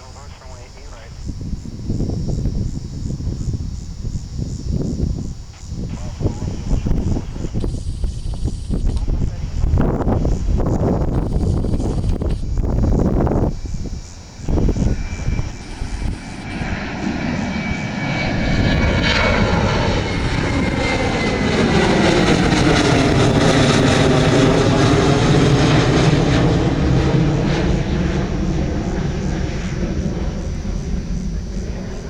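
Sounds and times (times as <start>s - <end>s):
high jet engine whine: 0.0s - 32.0s
jet airliner passing low: 0.0s - 32.0s.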